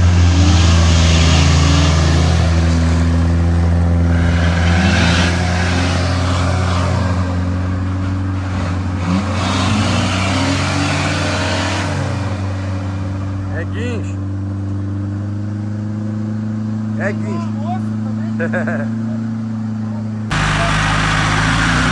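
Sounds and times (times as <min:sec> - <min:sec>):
off-road engine revving: 0:00.0 - 0:21.9.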